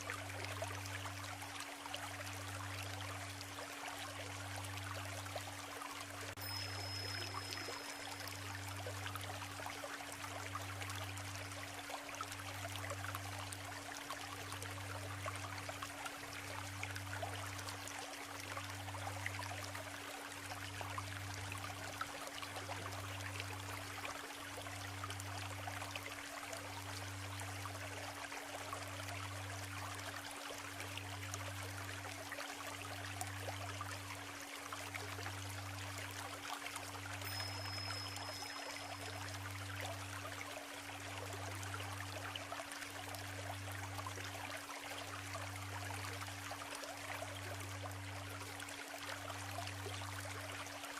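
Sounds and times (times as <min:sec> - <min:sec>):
steady low tone: 0:00.0 - 0:15.8, 0:16.4 - 0:50.7
stream babbling over stones: 0:00.0 - 0:50.9.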